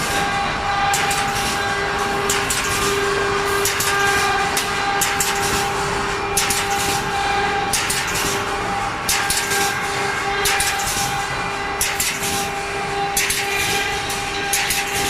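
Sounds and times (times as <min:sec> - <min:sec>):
machine humming: 0:00.0 - 0:15.0
sharp machine clacks: 0:00.0 - 0:15.0.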